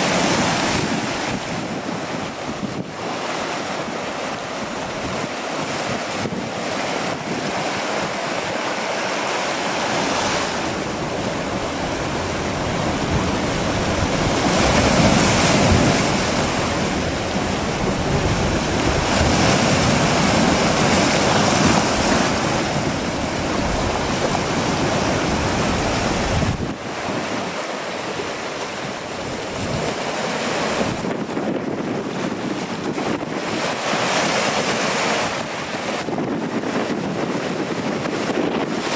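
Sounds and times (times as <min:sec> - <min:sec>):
gusty wind buffeting microphone: 0:00.0 - 0:38.9
surf rushing: 0:00.0 - 0:38.9.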